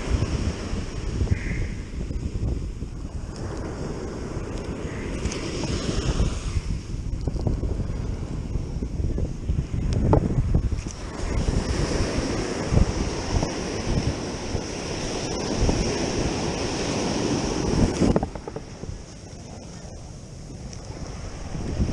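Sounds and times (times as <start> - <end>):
waves breaking on beach: 0.0 - 21.9
wind buffeting microphone: 0.0 - 21.9.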